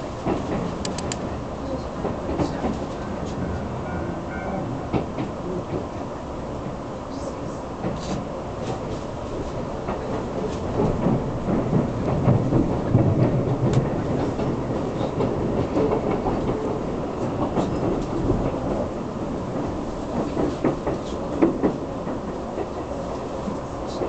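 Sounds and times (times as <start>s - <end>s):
train cabin rumble: 0.0s - 24.0s.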